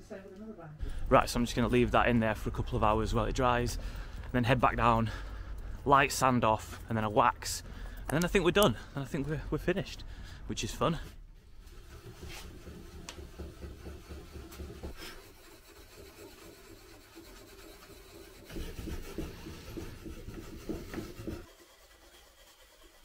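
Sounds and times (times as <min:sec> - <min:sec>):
hand rubbing wooden frame: 0:02.8 - 0:23.0.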